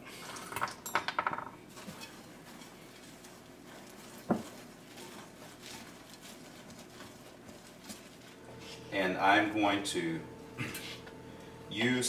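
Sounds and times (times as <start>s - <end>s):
hand mixing in bowl rustling: 1.6s - 12.0s.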